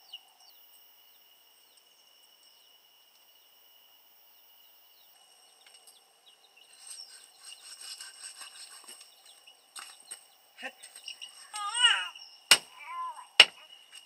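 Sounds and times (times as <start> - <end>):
faint bird chirps: 0.0 - 14.0
high insect trill: 0.0 - 14.0.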